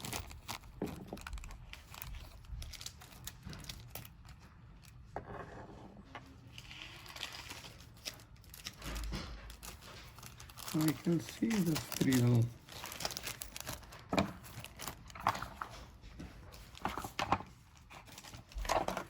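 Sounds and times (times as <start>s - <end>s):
plastic packets crinkling: 0.0s - 5.0s, 6.6s - 19.0s.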